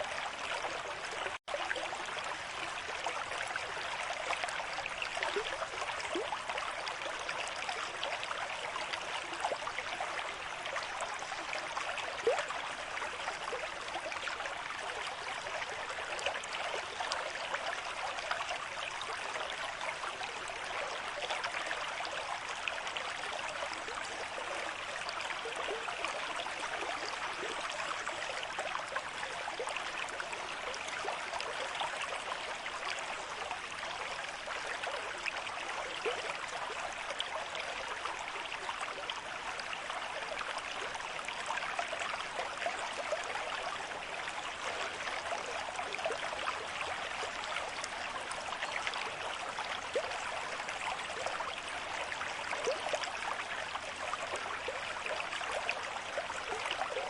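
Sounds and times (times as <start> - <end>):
stream water rushing and gurgling: 0.0 - 57.0.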